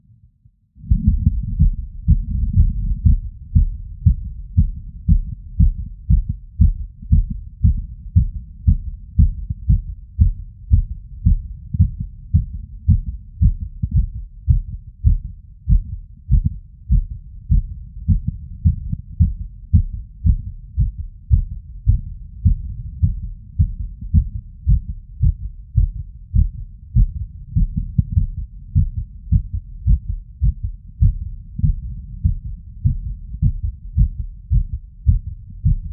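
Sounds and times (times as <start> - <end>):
heartbeat through stethoscope: 0.8 - 35.9.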